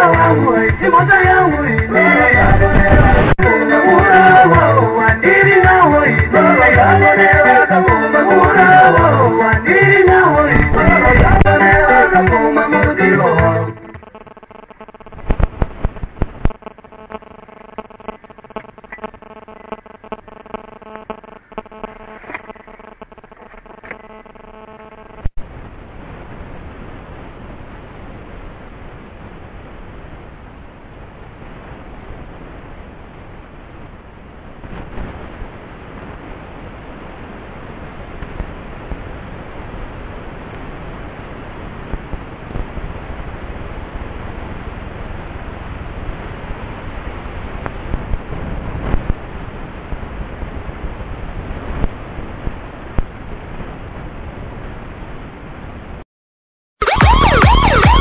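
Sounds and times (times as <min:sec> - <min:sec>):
steady rushing noise: 0:00.0 - 0:13.1, 0:13.8 - 0:56.0.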